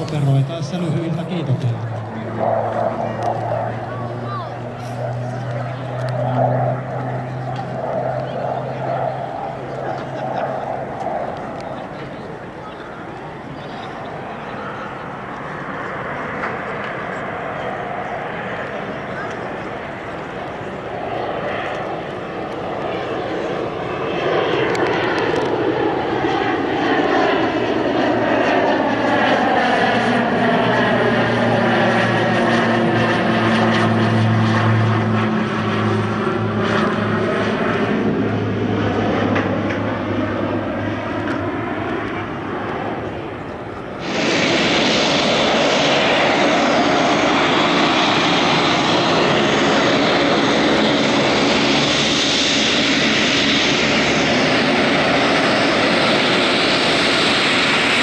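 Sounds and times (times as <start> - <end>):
turboprop plane flying overhead: 0.0 - 58.0
turboprop plane taxiing: 0.0 - 58.0.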